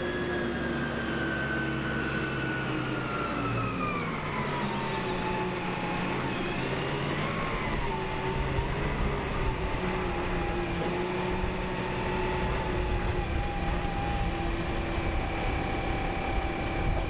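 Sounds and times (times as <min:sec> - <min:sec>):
forklift diesel engine running: 0:00.0 - 0:17.0.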